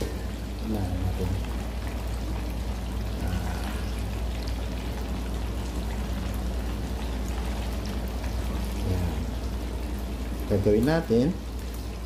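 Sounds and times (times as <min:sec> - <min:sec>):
low steady hum: 0:00.0 - 0:12.0
oil bubbling and sizzling: 0:00.0 - 0:12.0.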